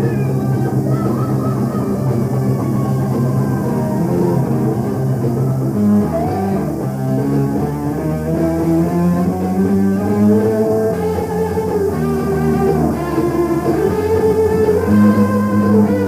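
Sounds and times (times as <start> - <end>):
guitar long held notes: 0.0 - 16.0
live hard rock band playing: 0.0 - 16.0.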